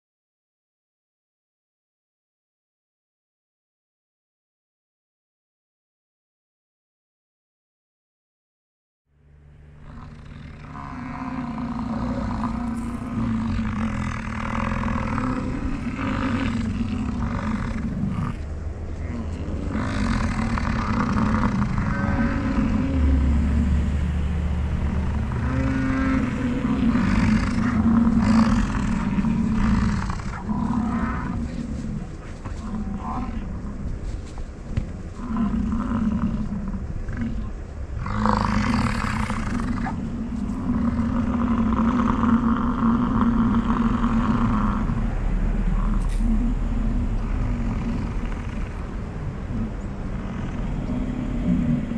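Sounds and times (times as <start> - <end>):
bison bellowing: 9.6 - 51.9.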